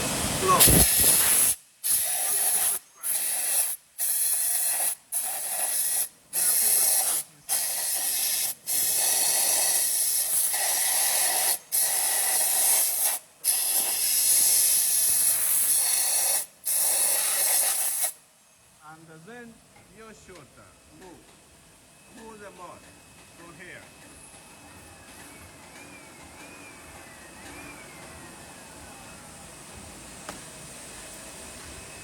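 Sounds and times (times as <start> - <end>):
hot-air blower hissing: 0.0 - 18.2, 24.0 - 32.0.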